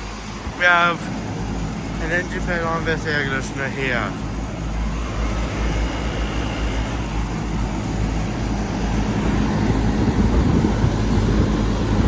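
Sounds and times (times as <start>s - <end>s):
air conditioner fans running: 0.0s - 12.0s
deep uneven rumble: 0.0s - 12.0s.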